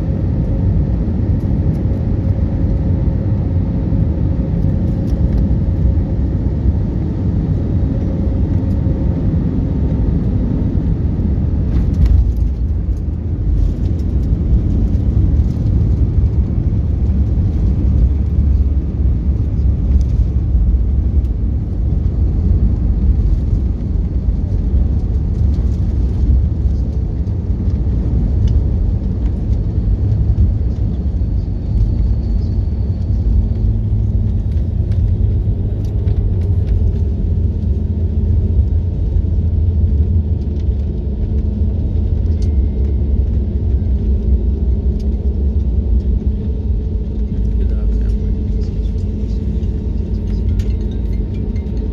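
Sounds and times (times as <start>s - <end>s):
airliner engines and wheels rumbling: 0.0s - 51.9s.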